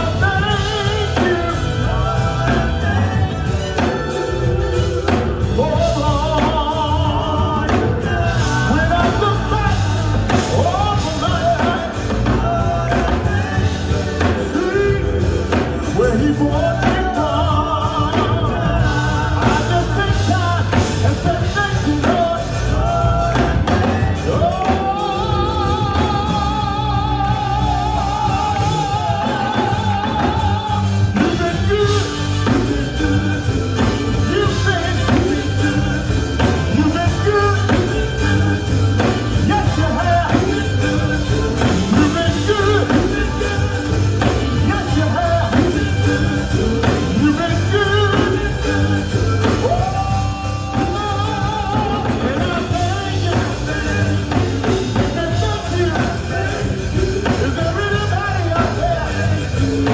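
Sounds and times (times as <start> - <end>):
gospel band playing: 0.0 - 59.9
person singing: 0.0 - 59.9.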